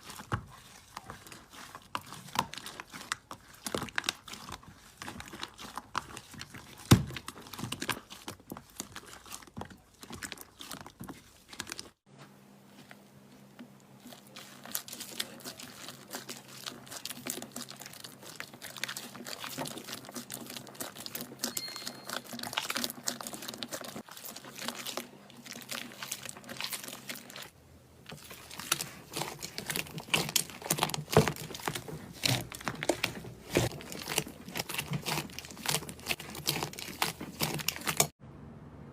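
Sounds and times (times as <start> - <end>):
slime squished by hand: 0.0 - 12.0, 14.0 - 38.1.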